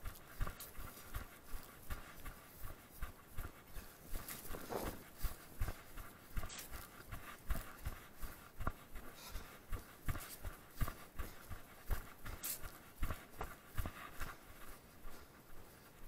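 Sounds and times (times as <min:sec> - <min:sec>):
running footsteps on grass: 0:00.0 - 0:16.0.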